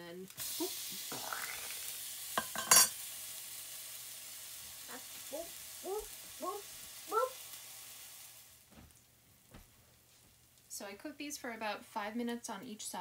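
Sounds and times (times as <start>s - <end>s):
pancakes sizzling in oil: 0.2s - 10.7s.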